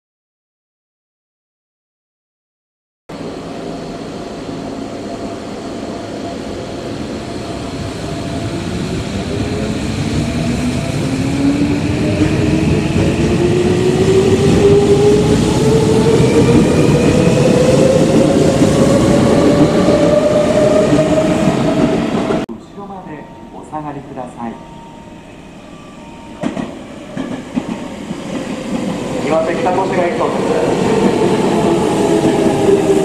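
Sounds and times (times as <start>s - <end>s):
train wheel and running noise: 3.2s - 23.0s, 25.5s - 33.0s.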